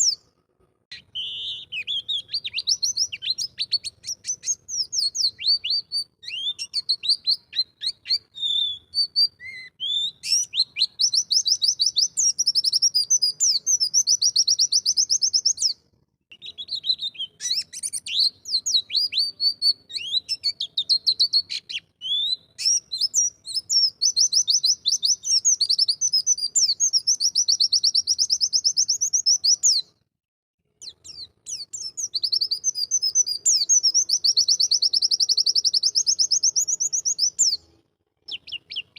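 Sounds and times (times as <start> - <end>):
bird singing rapid trills: 1.0 - 15.7, 16.4 - 29.8, 30.8 - 37.6.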